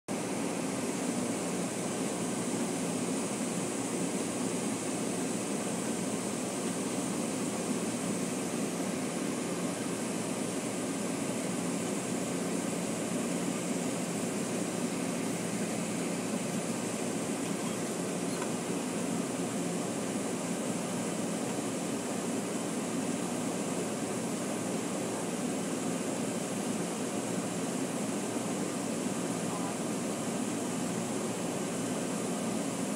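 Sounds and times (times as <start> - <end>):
transit vehicle running noise: 0.1 - 32.9.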